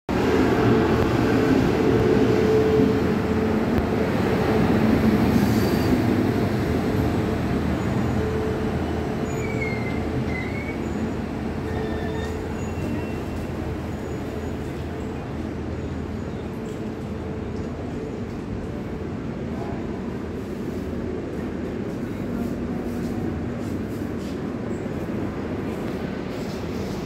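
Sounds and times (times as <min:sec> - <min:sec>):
train wheels on rails: 0:00.1 - 0:27.0.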